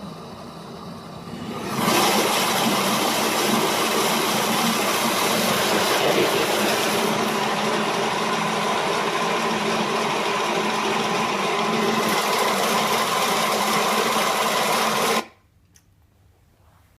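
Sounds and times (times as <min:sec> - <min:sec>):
machine running with hum: 0:00.0 - 0:15.3.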